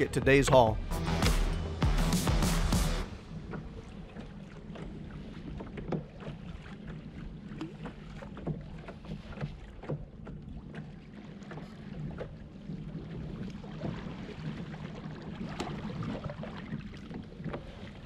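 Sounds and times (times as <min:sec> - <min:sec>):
low rumble of water and wind: 0:00.0 - 0:00.9, 0:03.0 - 0:18.0
small waves lapping against hull: 0:03.0 - 0:18.0
light knocks and splashes: 0:03.1 - 0:18.0.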